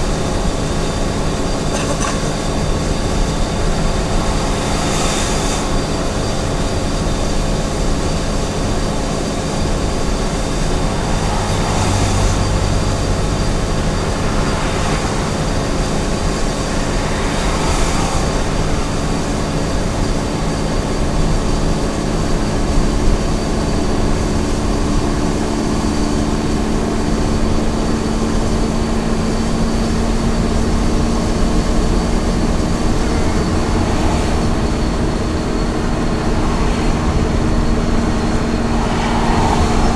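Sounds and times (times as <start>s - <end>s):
rushing noise: 0.0s - 26.3s, 29.3s - 39.9s
road and wind noise: 0.0s - 39.9s
truck engine hum: 0.0s - 39.9s.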